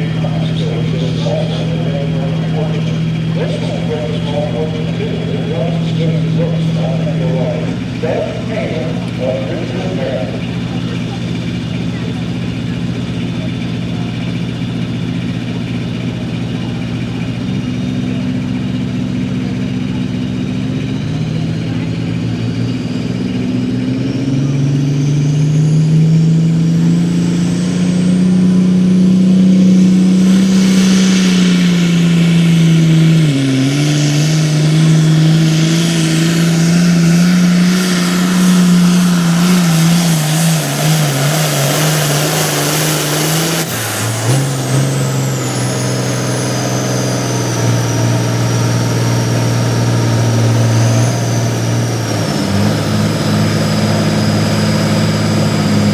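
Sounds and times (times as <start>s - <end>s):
tractor engine running hard: 0.0s - 55.9s.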